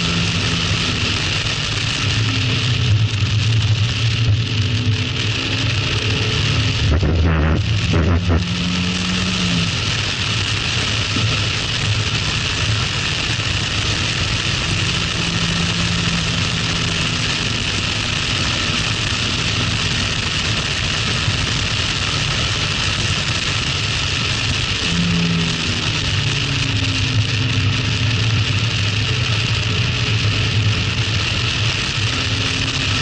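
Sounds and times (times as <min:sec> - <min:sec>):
car engine running hard: 0:00.0 - 0:33.0
wind noise: 0:00.0 - 0:33.0.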